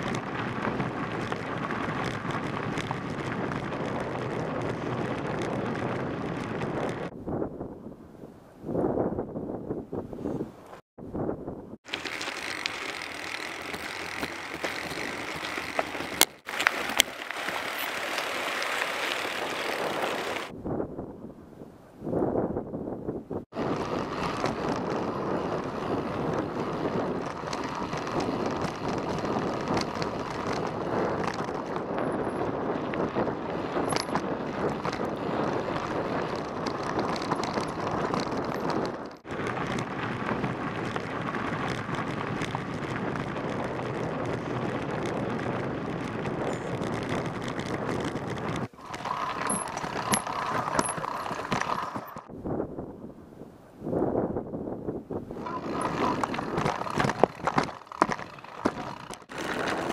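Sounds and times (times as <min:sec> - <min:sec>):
bike rattling over rocks: 0:00.0 - 0:07.2, 0:11.8 - 0:20.6, 0:23.5 - 0:52.3, 0:55.4 - 0:59.9
wind on microphone: 0:00.0 - 0:59.9.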